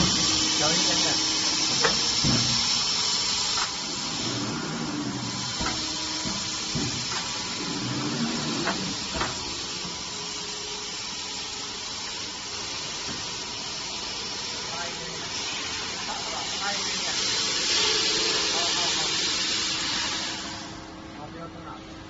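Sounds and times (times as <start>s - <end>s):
workshop machinery hiss: 0.0s - 22.0s.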